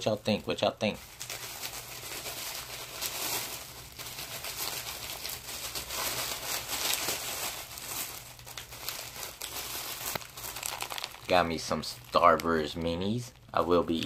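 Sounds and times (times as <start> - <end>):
tissue paper crinkling: 0.9 - 14.0.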